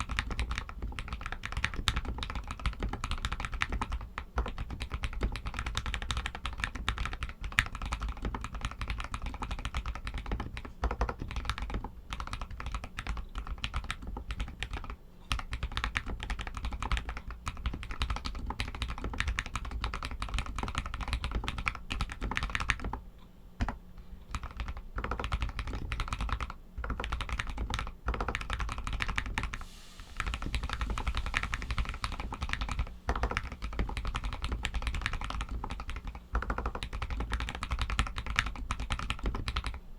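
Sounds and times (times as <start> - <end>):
mechanical keyboard typing: 0.0 - 23.0, 23.6 - 29.6, 30.2 - 39.8.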